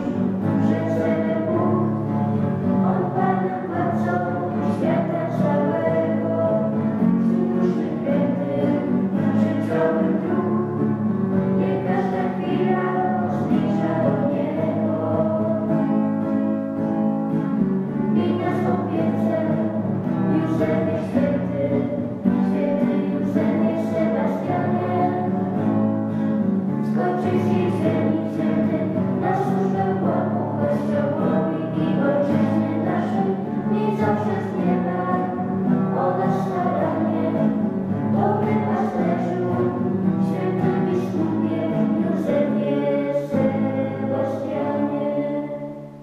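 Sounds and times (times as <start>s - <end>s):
people singing together: 0.0s - 16.5s, 18.1s - 25.9s, 26.7s - 46.0s
strummed acoustic guitar: 0.0s - 46.0s.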